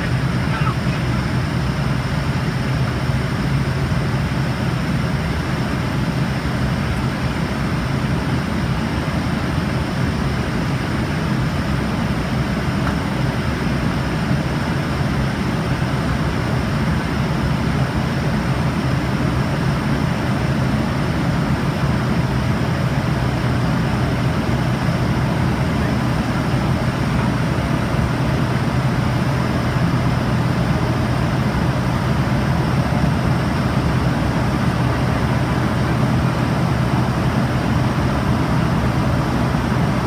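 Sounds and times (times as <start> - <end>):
jet engines humming: 0.0 - 40.0.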